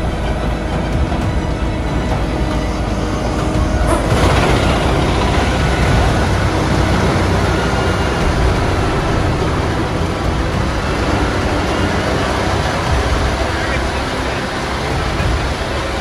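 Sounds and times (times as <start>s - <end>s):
wood chipper chipping logs: 0.0s - 16.0s.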